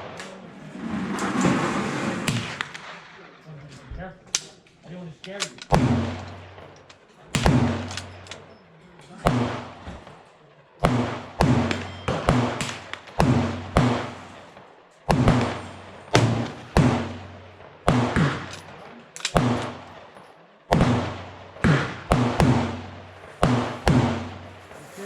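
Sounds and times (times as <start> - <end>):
gunshots: 0.0 - 3.4, 5.4 - 8.5, 9.1 - 24.9.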